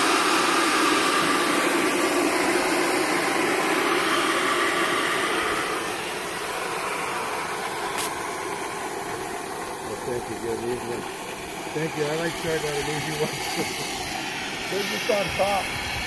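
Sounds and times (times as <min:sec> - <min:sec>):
motor humming and hissing: 0:00.0 - 0:16.0.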